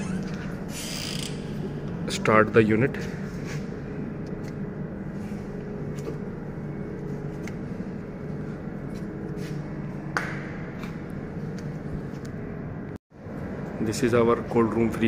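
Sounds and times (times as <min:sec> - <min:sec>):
refrigeration equipment humming: 0:00.0 - 0:15.0.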